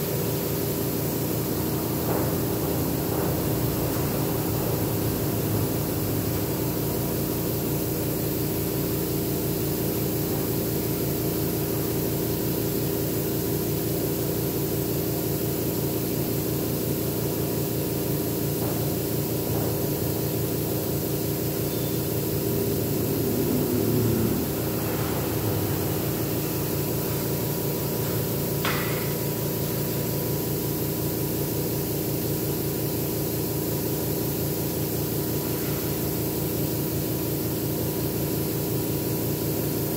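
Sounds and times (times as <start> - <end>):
air compressor motor hum: 0.0 - 39.9
air hiss: 0.2 - 39.9.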